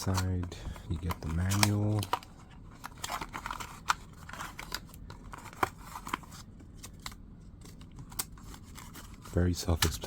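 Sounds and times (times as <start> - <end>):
paper rustling and crinkling: 0.0 - 10.0.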